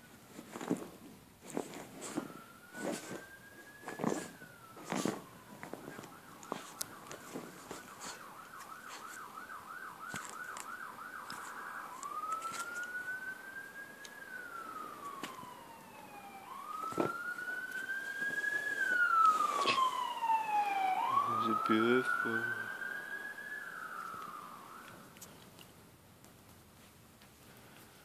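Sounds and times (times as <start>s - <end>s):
emergency vehicle siren: 1.8s - 25.3s.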